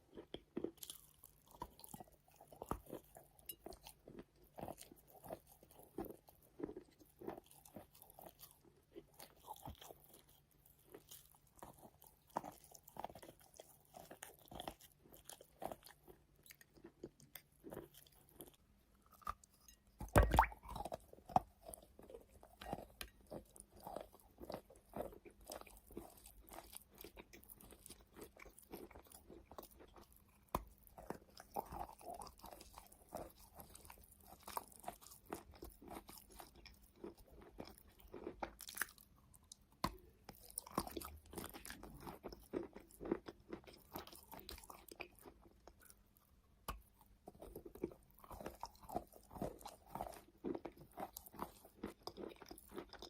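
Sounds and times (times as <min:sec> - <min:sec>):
chewing chalk crunches: 0:00.0 - 0:53.0.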